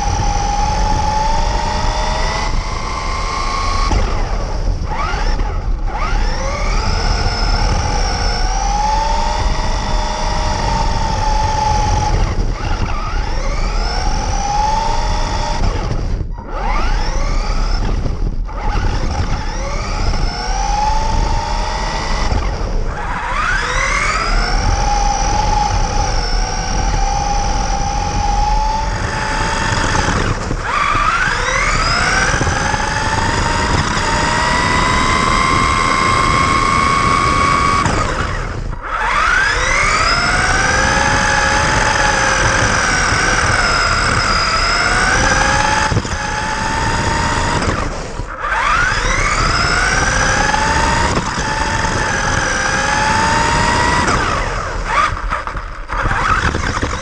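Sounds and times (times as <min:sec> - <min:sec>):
toy car motor whining: 0:00.0 - 0:57.0.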